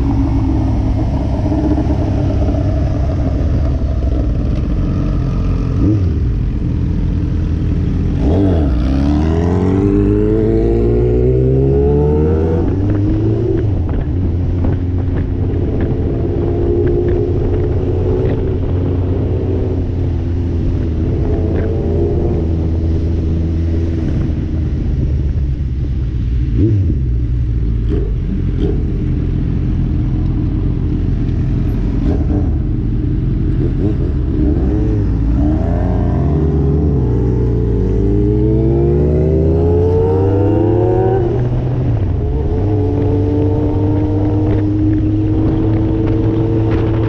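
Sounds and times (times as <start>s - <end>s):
vehicle engine accelerating: 0.0s - 25.6s, 26.4s - 47.0s.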